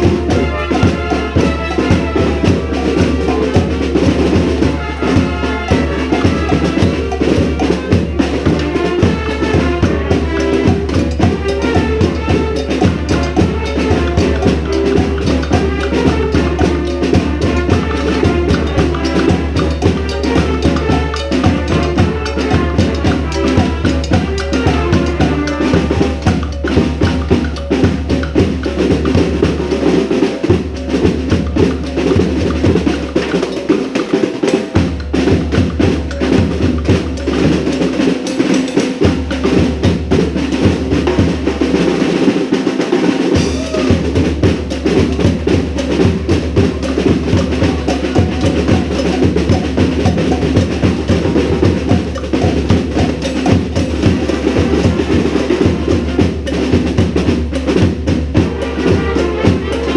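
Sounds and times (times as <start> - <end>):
brass band playing salsa: 0.0 - 59.9
drums and rim shots: 0.0 - 59.9.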